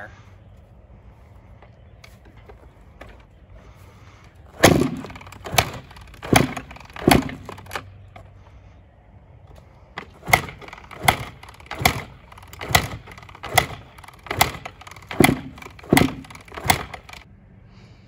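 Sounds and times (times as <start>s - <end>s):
dirt bike kickstart clunks: 1.6s - 8.6s, 9.4s - 17.3s.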